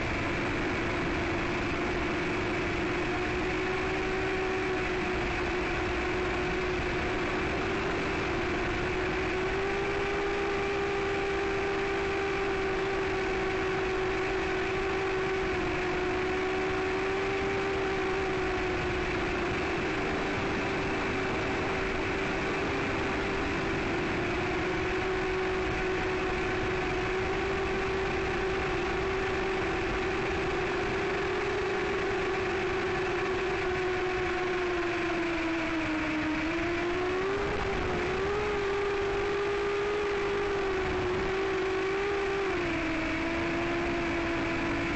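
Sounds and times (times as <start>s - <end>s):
drone motors whining: 0.0s - 44.9s.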